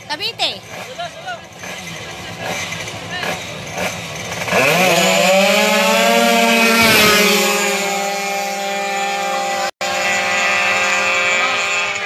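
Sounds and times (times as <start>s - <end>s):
scooter engine screaming at full throttle: 0.6s - 12.0s.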